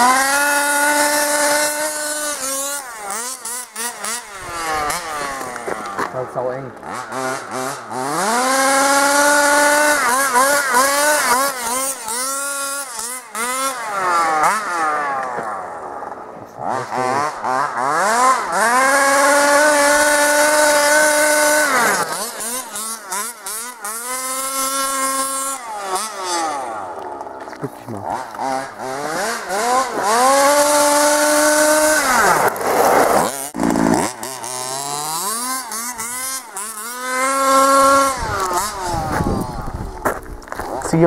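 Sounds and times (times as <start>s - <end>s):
two-stroke engine revving hard: 0.0s - 41.0s.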